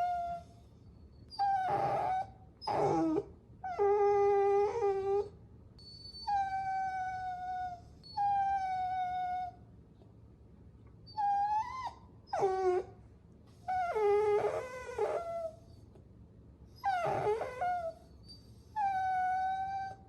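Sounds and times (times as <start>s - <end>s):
puppy whining: 0.0s - 9.6s, 11.0s - 16.0s, 16.7s - 20.0s.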